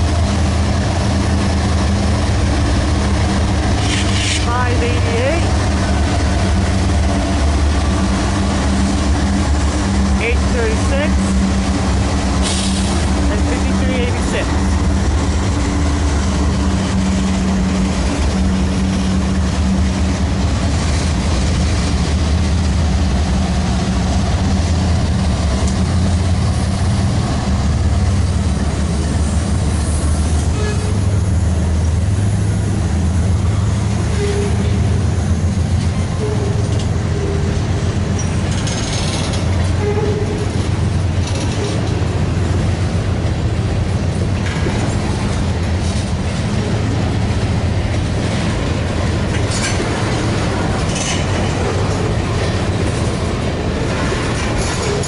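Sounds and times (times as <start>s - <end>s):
diesel locomotives rumbling: 0.0s - 55.0s
freight cars clattering on rails: 0.0s - 55.0s.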